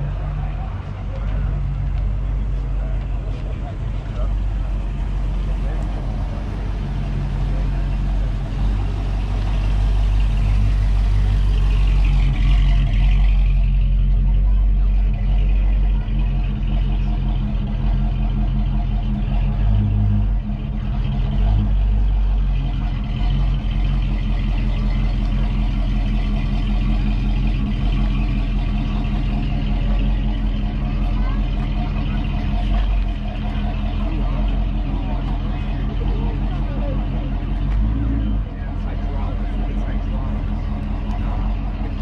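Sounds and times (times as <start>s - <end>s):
car engines idling: 0.0s - 42.0s
people talking: 0.0s - 42.0s.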